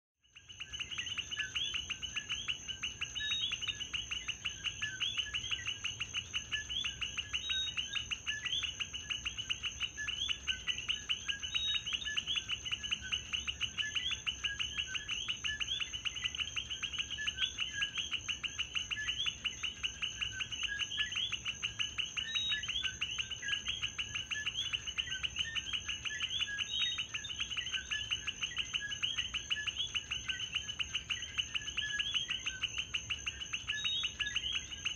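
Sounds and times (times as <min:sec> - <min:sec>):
frogs calling: 0:00.2 - 0:34.9.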